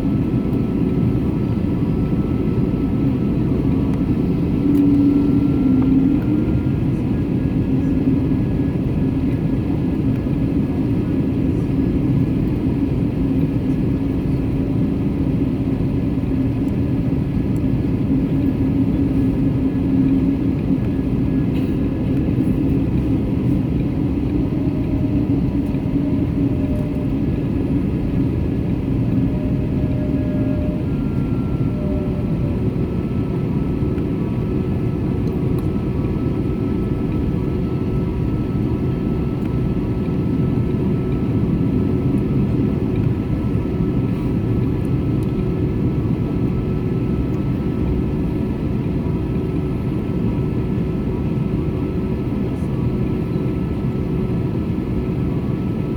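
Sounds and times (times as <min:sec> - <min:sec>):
jet engine cabin rumble: 0:00.0 - 0:55.9.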